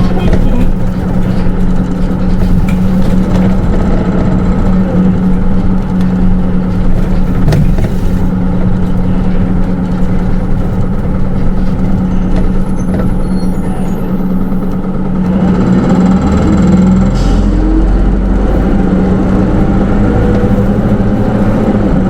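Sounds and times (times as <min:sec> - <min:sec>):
bus engine drone: 0:00.0 - 0:22.0
road rumble: 0:00.0 - 0:22.0.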